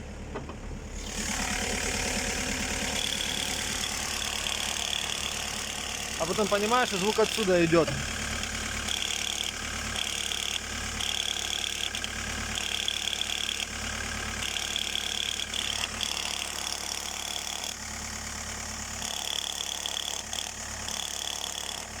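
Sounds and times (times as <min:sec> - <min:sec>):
car engine idling: 0:00.0 - 0:19.1.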